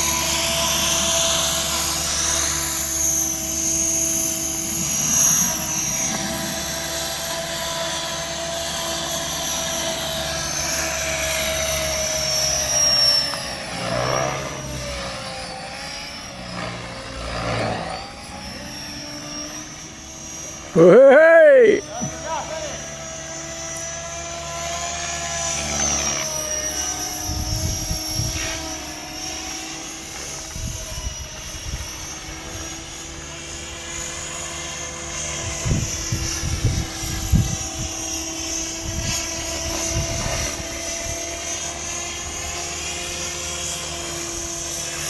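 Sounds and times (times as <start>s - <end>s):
model helicopter engine whine: 0.0s - 45.0s.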